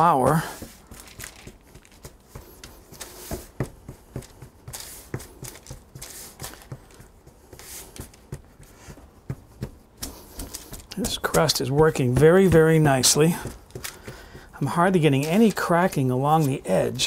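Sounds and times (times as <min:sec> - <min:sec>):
hands patting pastry dough: 0:00.0 - 0:17.0
parchment paper rustling: 0:00.0 - 0:17.0.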